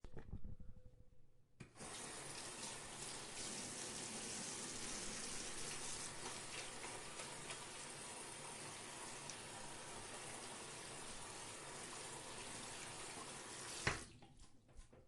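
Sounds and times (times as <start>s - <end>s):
tap water running into sink: 1.6s - 14.4s.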